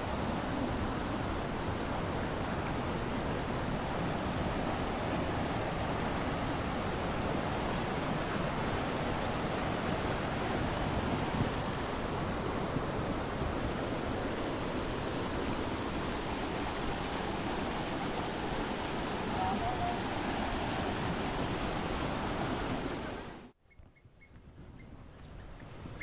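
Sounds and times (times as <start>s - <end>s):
stream rushing: 0.0s - 23.6s.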